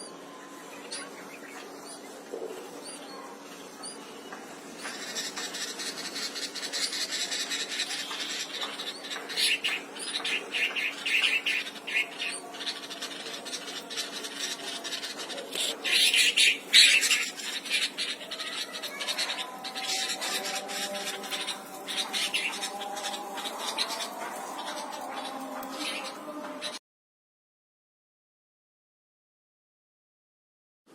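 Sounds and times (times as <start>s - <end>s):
birds chirping: 0.0s - 26.8s.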